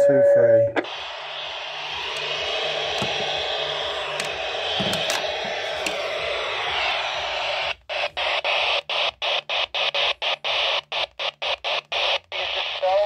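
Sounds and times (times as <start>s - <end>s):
radio static hiss: 0.7s - 13.0s.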